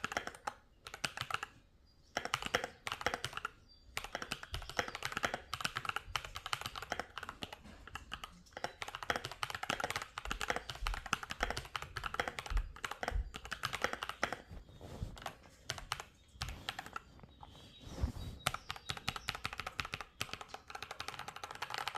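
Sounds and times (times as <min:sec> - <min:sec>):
mechanical keyboard typing: 0:00.0 - 0:14.5, 0:15.2 - 0:17.1, 0:18.4 - 0:21.9.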